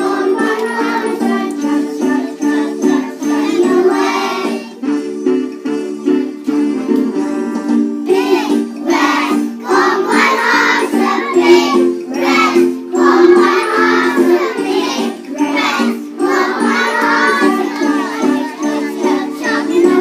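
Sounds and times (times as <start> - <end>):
jingling percussion: 0.0 - 5.7, 8.8 - 20.0
children's song singing: 0.0 - 20.0.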